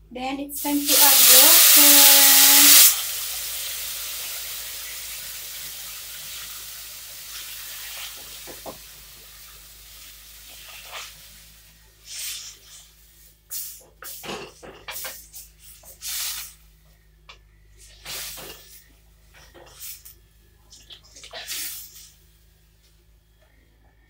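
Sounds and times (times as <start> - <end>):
food sizzling and hissing in oil: 0.5 - 16.9, 17.7 - 22.8.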